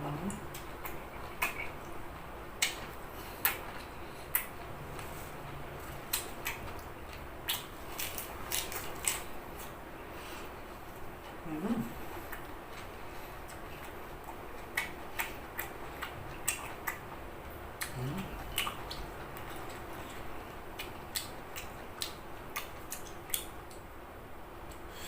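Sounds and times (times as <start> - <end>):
low steady background noise: 0.0 - 25.0.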